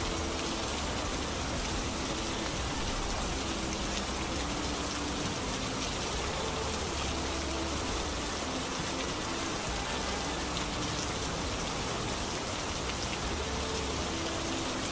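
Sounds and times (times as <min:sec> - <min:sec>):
rain hissing: 0:00.0 - 0:14.9.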